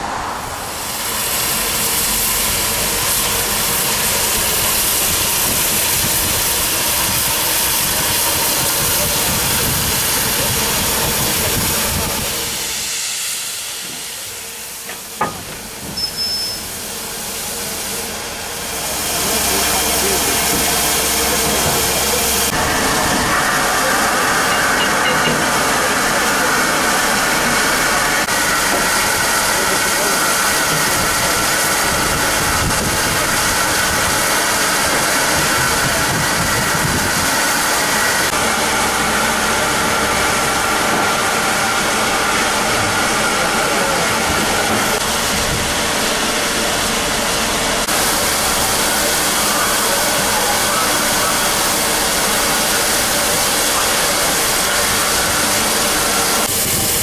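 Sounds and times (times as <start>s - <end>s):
locomotive hissing: 0.0s - 57.0s.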